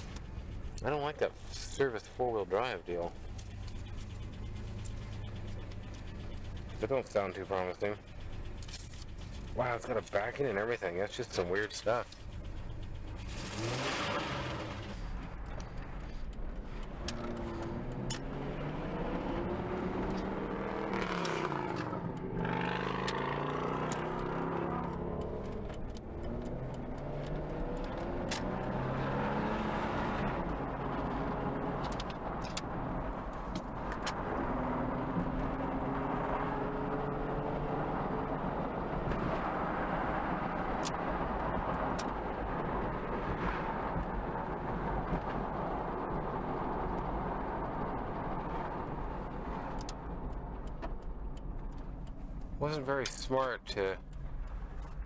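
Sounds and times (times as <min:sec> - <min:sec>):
car engine revving while driving: 0:00.0 - 0:53.0.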